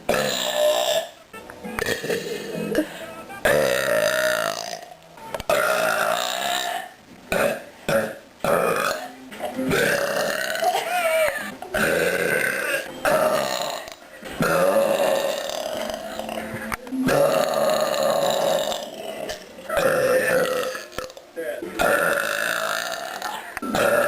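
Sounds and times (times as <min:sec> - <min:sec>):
woman belching: 0:00.1 - 0:01.2, 0:01.8 - 0:04.9, 0:05.5 - 0:21.2, 0:21.8 - 0:24.0.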